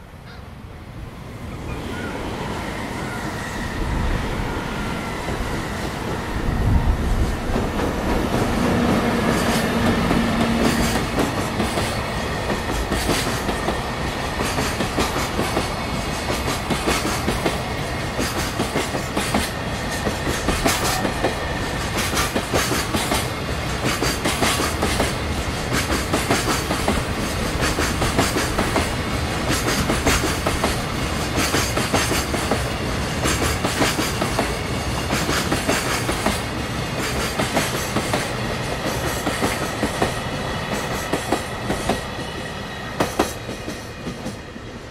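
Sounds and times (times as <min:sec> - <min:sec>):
freight train wheels clattering: 0:07.3 - 0:44.5.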